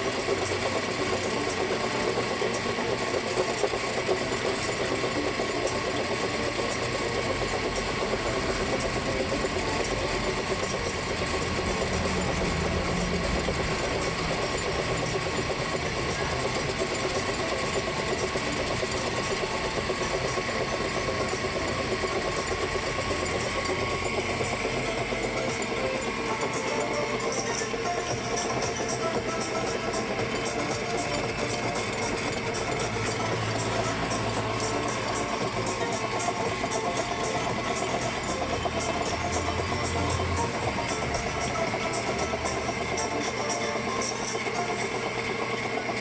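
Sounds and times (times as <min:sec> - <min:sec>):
air-cooled engine idling: 0:00.0 - 0:46.0.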